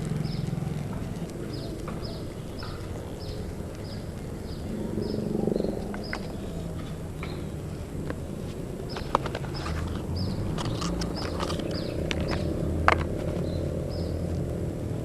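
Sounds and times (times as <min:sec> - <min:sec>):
sharp clicks: 0:00.0 - 0:14.7
small birds chirping: 0:00.0 - 0:15.0
steady low hum: 0:00.0 - 0:15.0.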